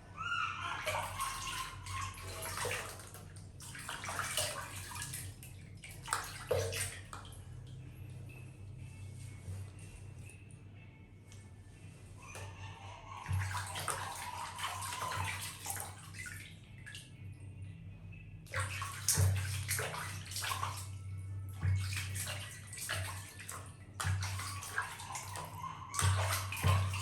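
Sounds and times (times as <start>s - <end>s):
water splashing and sloshing: 0.0s - 10.6s, 11.3s - 27.0s.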